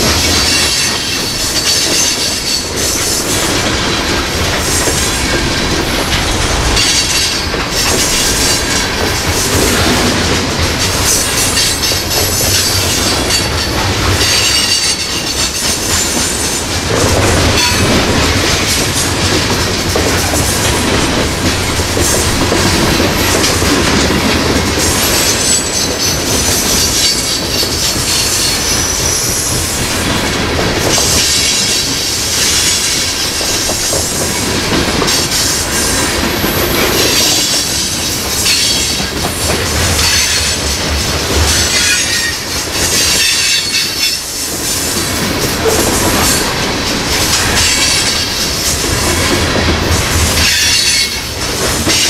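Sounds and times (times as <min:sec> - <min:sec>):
freight train rolling past: 0:00.0 - 0:52.0.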